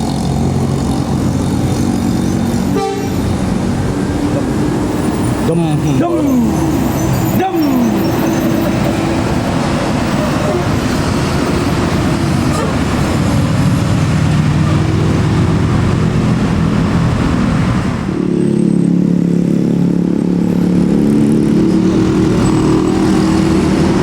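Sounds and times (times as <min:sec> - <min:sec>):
bus diesel engines running: 0:00.0 - 0:24.0.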